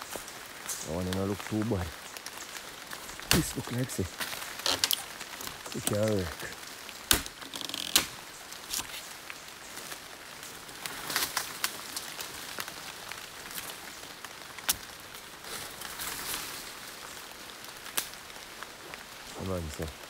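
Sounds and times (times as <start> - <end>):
rain on foliage: 0.0 - 20.0.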